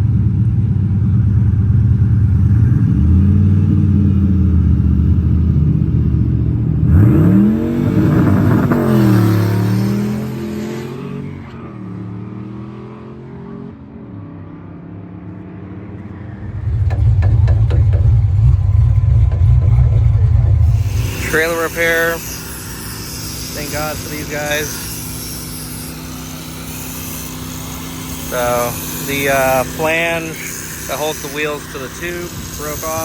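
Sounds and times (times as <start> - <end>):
car engine revving: 2.0 - 13.9, 15.8 - 33.0.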